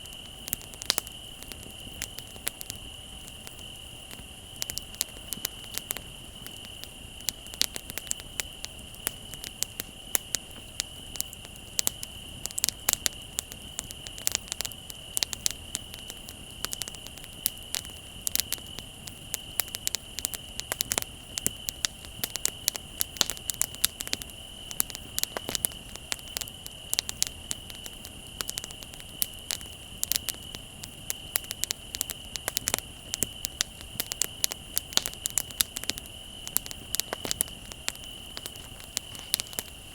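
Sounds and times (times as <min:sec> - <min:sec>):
bonfire crackling and popping: 0:00.0 - 0:39.9
crickets trilling: 0:00.0 - 0:39.9.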